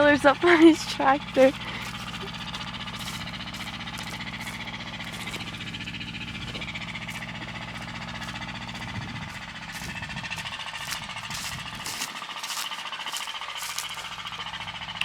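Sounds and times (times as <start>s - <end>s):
tractor engine chugging: 0.0s - 15.0s.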